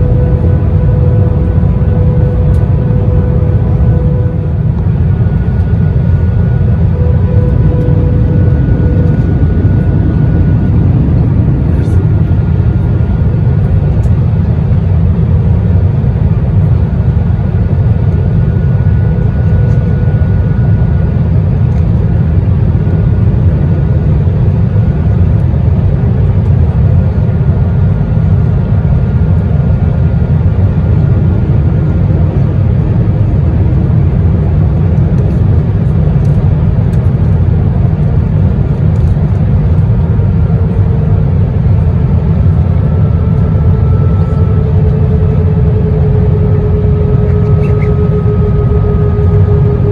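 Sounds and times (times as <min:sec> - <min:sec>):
aircraft cabin roar: 0:00.0 - 0:49.9
faint engine whine: 0:00.0 - 0:49.9.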